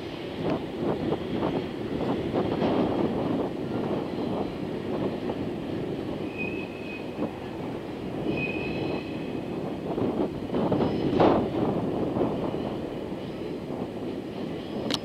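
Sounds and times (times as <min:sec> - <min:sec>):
train wagons rumbling: 0:00.0 - 0:15.0.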